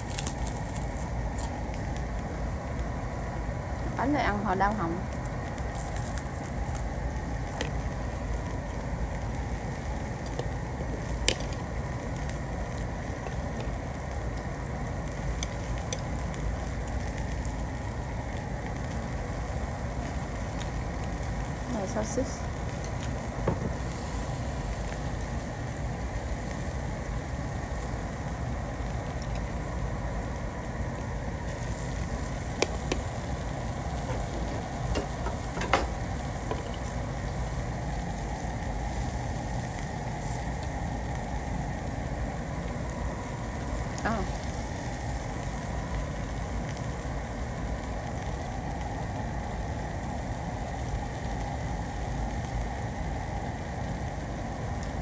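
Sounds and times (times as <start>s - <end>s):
low rumble: 0.0s - 48.7s
food sizzling on a grill: 0.0s - 55.0s.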